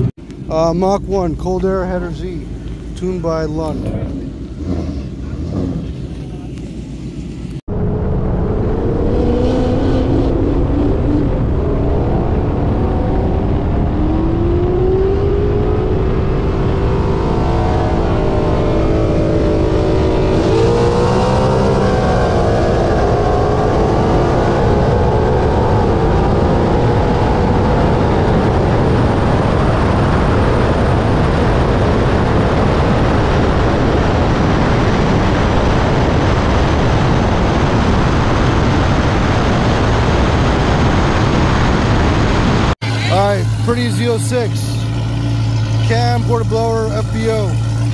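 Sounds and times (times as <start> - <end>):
car engine at full throttle: 0.0 - 47.9
wind noise: 0.0 - 47.9.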